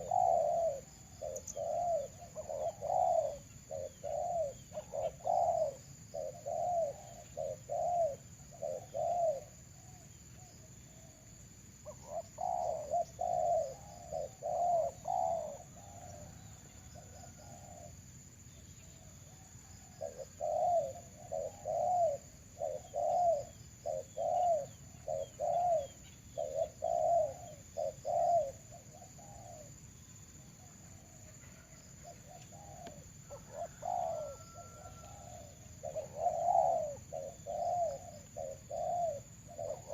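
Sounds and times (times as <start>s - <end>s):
doves cooing: 0.0s - 11.2s, 11.8s - 18.0s, 18.8s - 29.8s, 30.4s - 39.9s.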